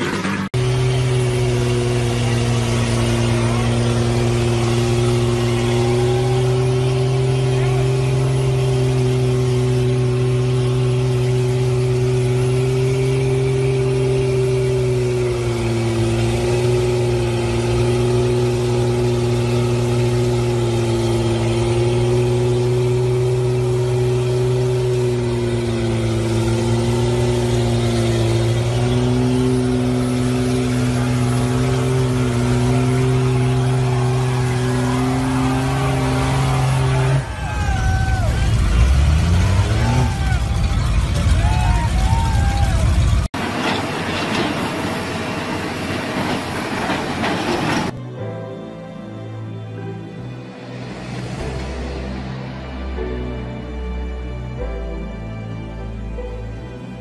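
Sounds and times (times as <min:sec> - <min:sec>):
truck engine at high revs: 0:00.0 - 0:48.0
tyres churning through mud: 0:00.0 - 0:48.0.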